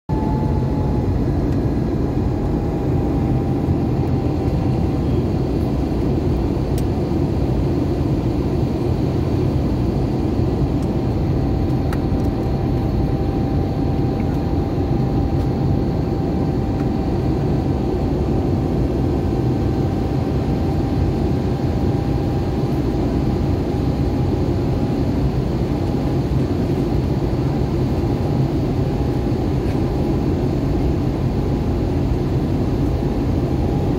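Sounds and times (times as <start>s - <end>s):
airplane cabin engine noise: 0.1s - 33.9s
faint steady whine: 0.1s - 33.9s.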